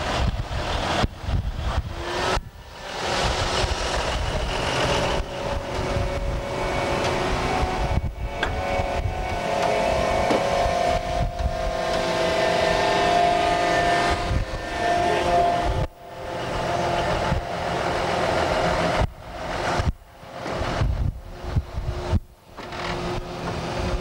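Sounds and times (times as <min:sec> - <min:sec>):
railcar engine rumbling: 0:00.0 - 0:24.0
high tones from wheels: 0:00.1 - 0:24.0.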